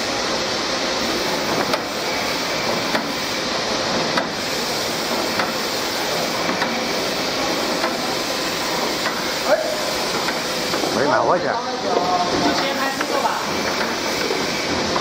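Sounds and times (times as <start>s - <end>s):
machine whirring: 0.0s - 15.0s.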